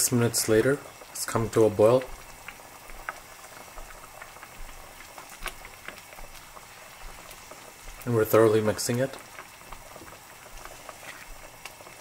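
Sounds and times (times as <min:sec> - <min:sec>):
sauce boiling in a pot: 0:00.0 - 0:12.0.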